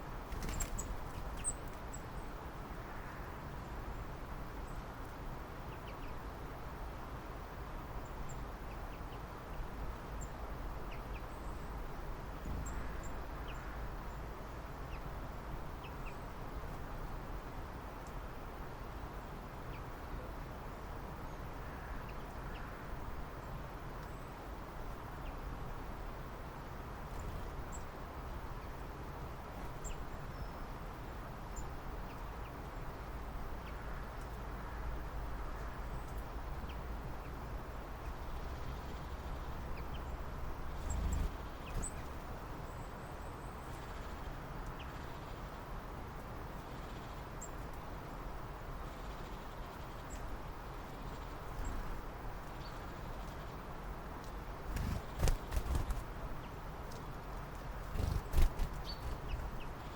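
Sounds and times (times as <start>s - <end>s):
outdoor ambience: 0.0s - 59.9s.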